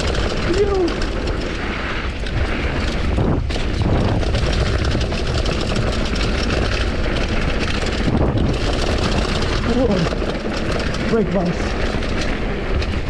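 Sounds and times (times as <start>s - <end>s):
mountain bike clatter: 0.0s - 13.0s
tyre noise: 0.0s - 13.0s
wind buffeting microphone: 0.0s - 13.0s.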